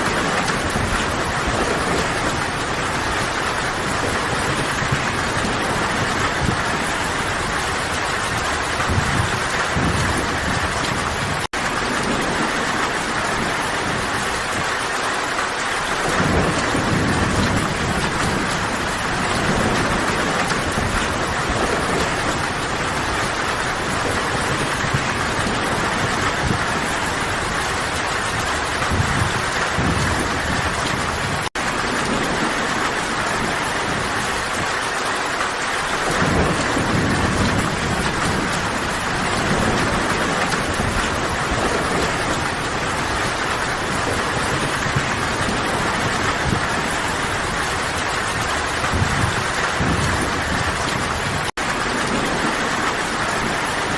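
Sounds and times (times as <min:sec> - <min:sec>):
steady rain hissing: 0:00.0 - 0:53.9
thunder rumbling: 0:00.0 - 0:53.9.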